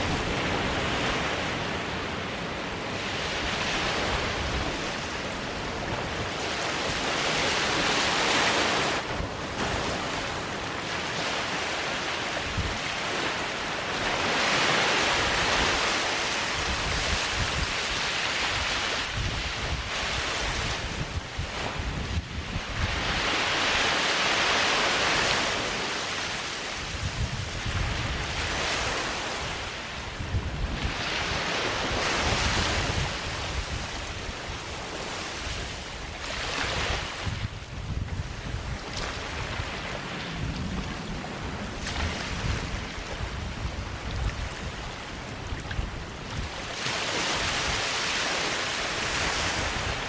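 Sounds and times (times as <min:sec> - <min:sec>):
wind buffeting microphone: 0:00.0 - 0:11.6, 0:12.3 - 0:24.0, 0:26.7 - 0:50.0
waves breaking on beach: 0:00.0 - 0:50.0.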